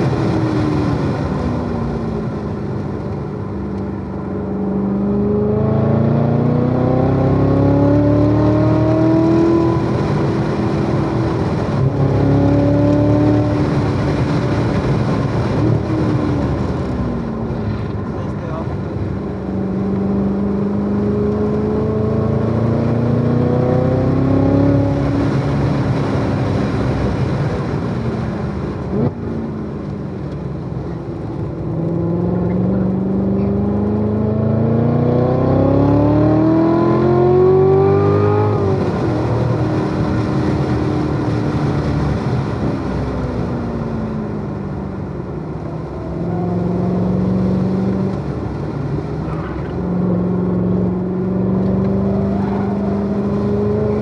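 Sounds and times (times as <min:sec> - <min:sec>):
car engine under hard driving: 0:00.0 - 0:54.0.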